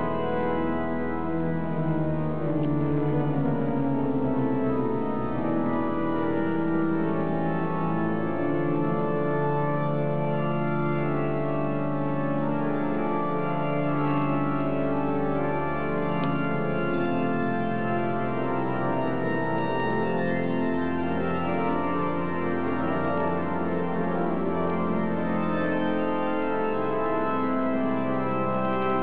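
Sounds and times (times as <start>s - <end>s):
pipe organ playing full chords: 0.0s - 29.0s.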